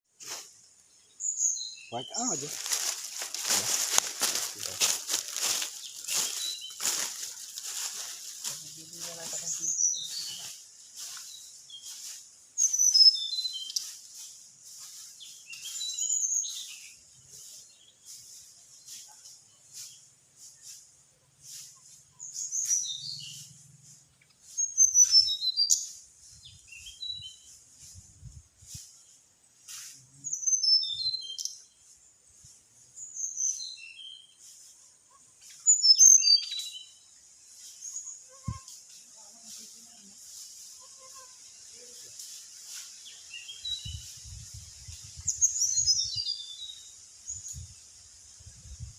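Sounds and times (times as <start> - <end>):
songbird chirping: 0.2 - 48.9.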